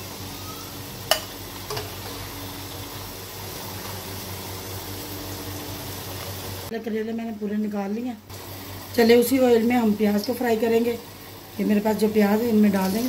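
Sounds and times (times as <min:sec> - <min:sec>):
oil sizzling in a frying pan: 0:00.0 - 0:06.9, 0:07.6 - 0:13.0.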